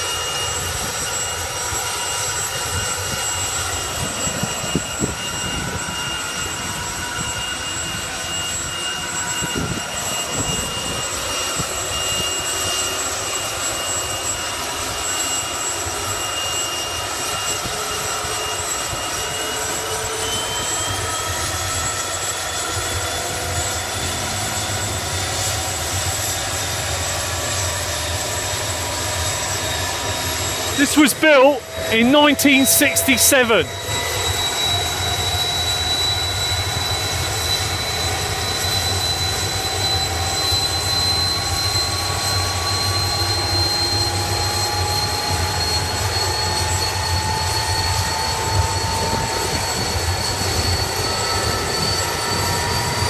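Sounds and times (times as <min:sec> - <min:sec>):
helicopter turbine whine and rotor: 0:00.0 - 0:53.0.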